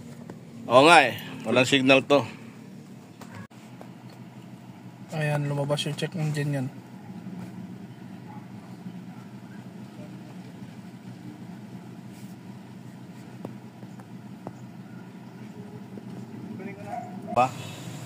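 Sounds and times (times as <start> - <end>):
motor droning: 0.0 - 18.0.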